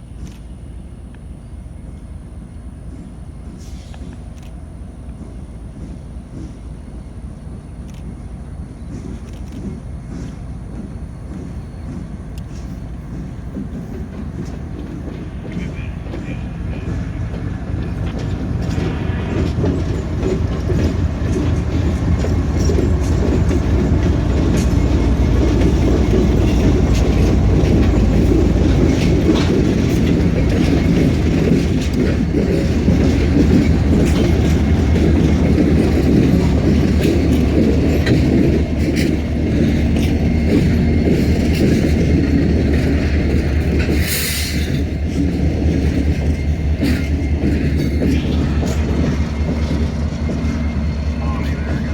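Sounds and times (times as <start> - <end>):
locomotive engine rumble: 0.0 - 51.9
train wheel clatter: 0.0 - 51.9.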